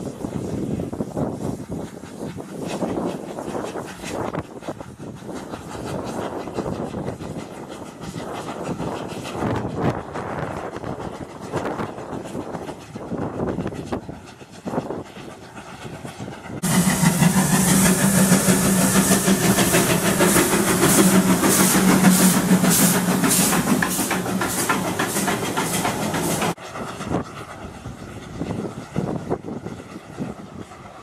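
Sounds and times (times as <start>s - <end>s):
distant train: 0.0s - 31.0s
steam locomotive hissing steam: 0.0s - 31.0s
steam pulses beating: 0.0s - 31.0s.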